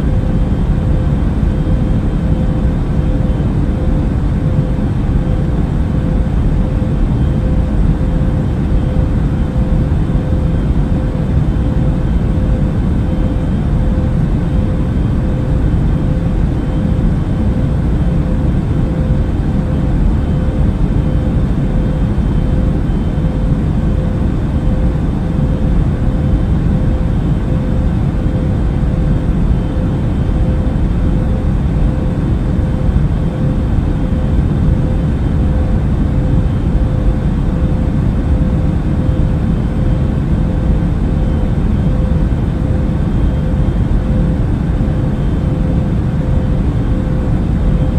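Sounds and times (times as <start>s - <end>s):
airliner cabin engine rush: 0.0s - 47.9s
faint constant hum: 0.0s - 47.9s.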